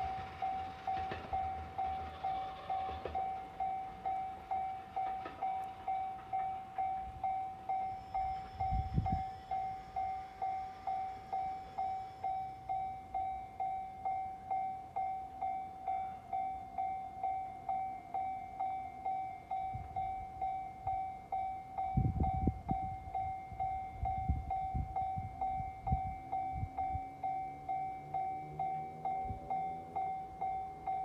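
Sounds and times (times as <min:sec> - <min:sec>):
level crossing warning bell clanging: 0:00.0 - 0:31.0.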